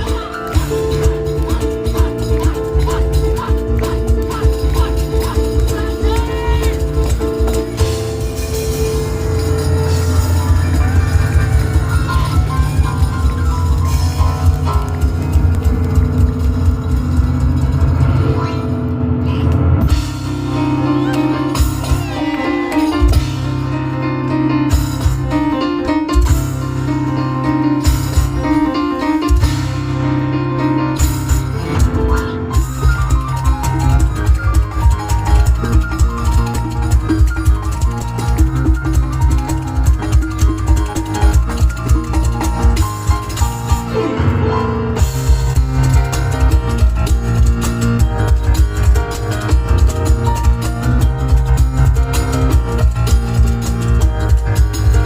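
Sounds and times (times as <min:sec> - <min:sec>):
cajon and tambourine percussion: 0:00.0 - 0:18.5, 0:19.8 - 0:30.0, 0:30.6 - 0:44.2, 0:45.0 - 0:55.0
piano playing fast runs: 0:00.0 - 0:55.0.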